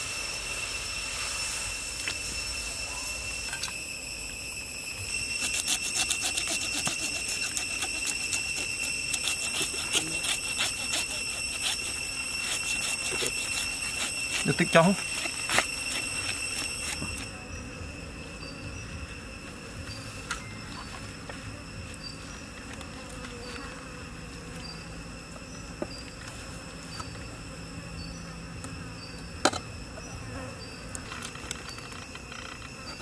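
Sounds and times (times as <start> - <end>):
forest insects droning: 0.0 - 33.0.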